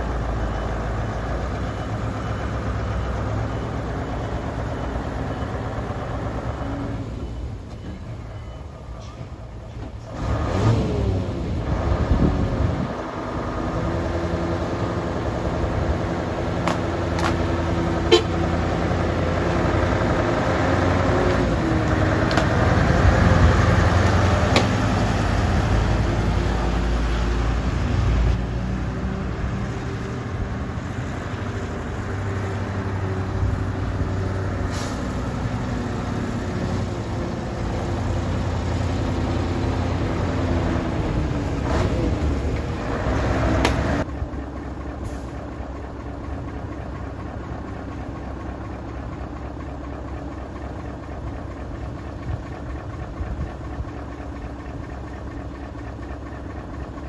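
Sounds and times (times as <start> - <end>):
diesel truck engine revving: 10.0 - 57.0.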